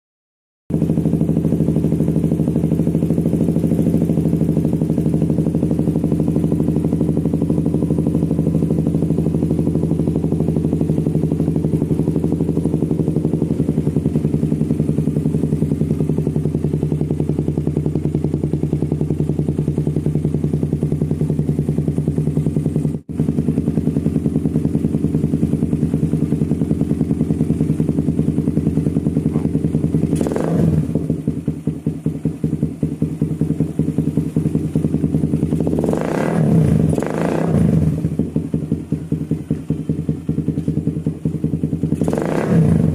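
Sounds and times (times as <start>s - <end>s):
motorcycle engine idling: 0.7s - 42.9s.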